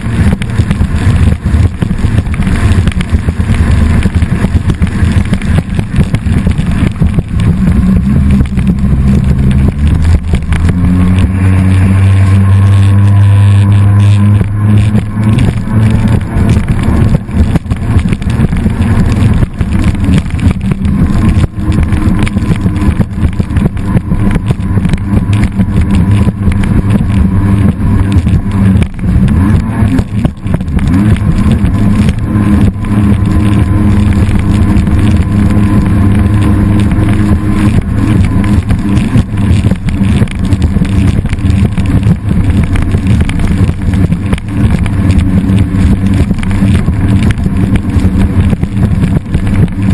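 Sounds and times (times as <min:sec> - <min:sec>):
choppy noise: 0:00.0 - 0:49.9
motor engine running: 0:00.0 - 0:49.9.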